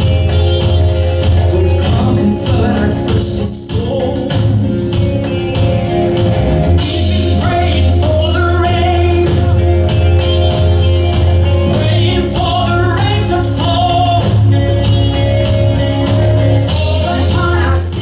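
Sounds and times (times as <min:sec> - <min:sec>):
bass line: 0:00.0 - 0:18.0
drums: 0:00.0 - 0:18.0
gospel worship song: 0:00.0 - 0:18.0
person singing: 0:00.0 - 0:18.0.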